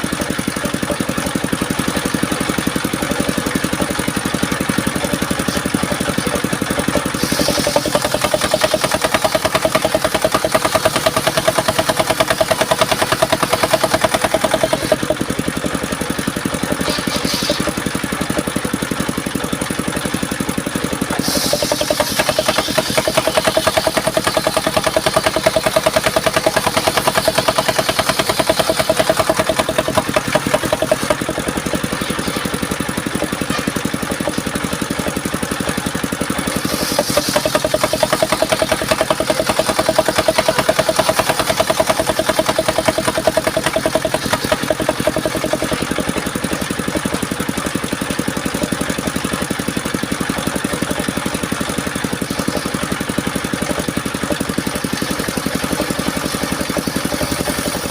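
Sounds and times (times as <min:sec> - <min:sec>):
sawmill engine pulsing: 0:00.0 - 0:57.9.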